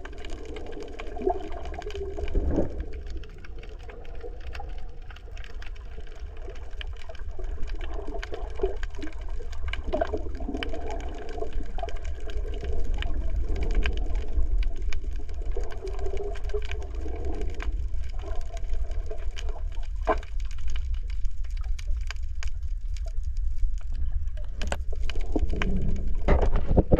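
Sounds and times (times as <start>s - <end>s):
underwater low rumble: 0.0s - 26.9s.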